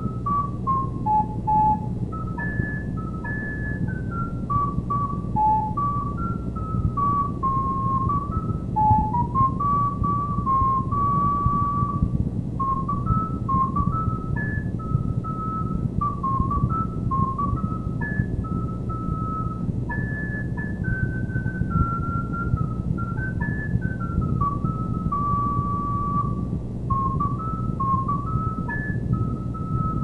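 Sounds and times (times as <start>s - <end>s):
recorder melody: 0.0s - 30.0s
steady low rumble: 0.0s - 30.0s.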